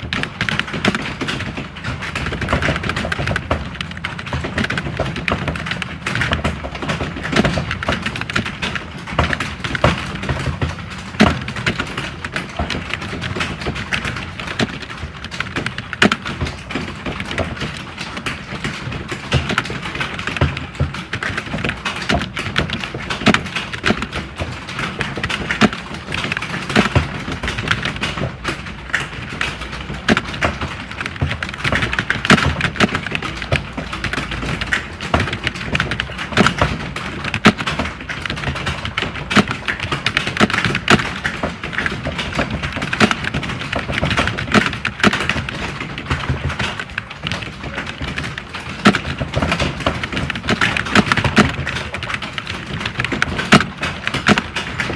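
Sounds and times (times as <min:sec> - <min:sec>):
fast keyboard typing: 0:00.0 - 0:54.9.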